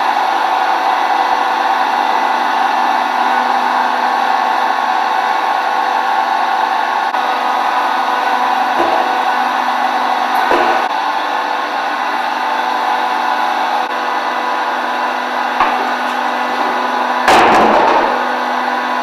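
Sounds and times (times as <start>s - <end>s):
hydraulic pump motor humming: 0.0s - 19.0s.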